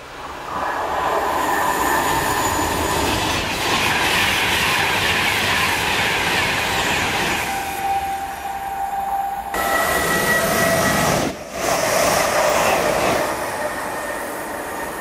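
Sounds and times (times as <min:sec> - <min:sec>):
train rushing past: 0:00.0 - 0:15.0.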